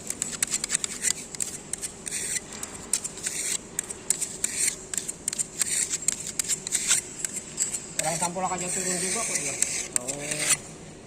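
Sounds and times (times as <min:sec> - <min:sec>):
hand tool scraping concrete: 0:00.0 - 0:10.6.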